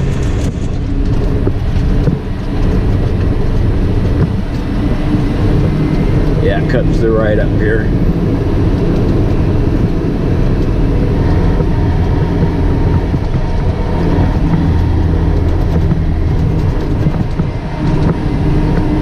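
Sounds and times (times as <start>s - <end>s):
truck engine running: 0.0s - 19.0s
truck knocking and rattling: 0.0s - 19.0s.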